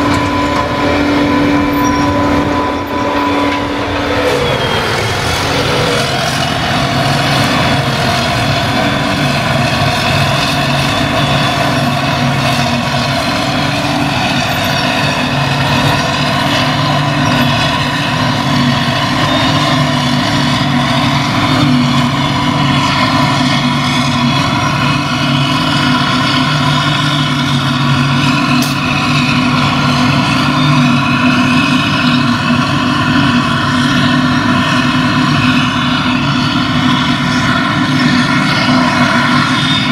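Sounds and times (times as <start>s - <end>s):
harvester machinery hum: 0.0s - 39.9s.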